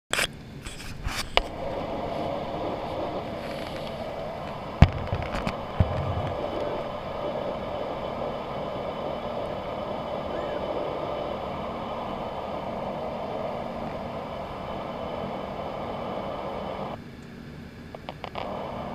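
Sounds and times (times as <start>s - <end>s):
airliner cabin noise: 0.1s - 18.9s.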